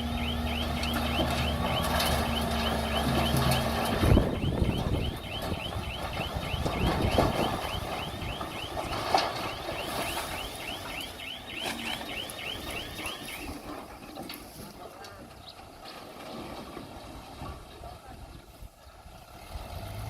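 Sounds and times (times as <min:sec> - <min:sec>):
bulldozer rumbling: 0:00.0 - 0:20.0.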